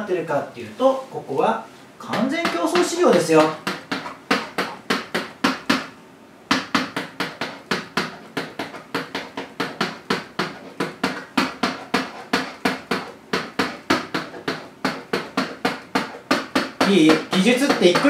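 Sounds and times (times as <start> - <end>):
rapid sharp knocking: 2.1 - 18.0.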